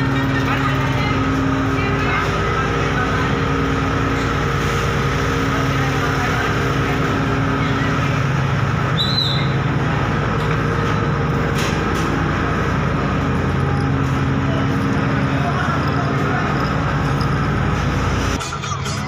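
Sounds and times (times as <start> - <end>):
engines droning: 0.0 - 19.0.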